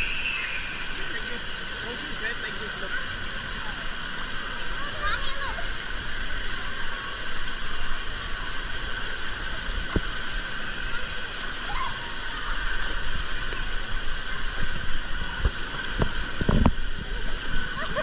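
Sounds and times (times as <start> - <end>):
water rushing in a pool: 0.0 - 18.0.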